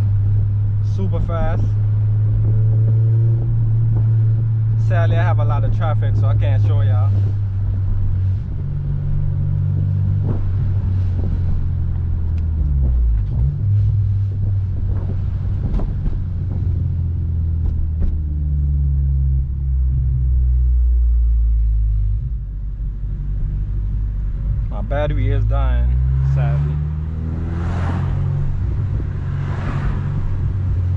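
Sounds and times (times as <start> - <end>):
car engine low drone: 0.0 - 30.9.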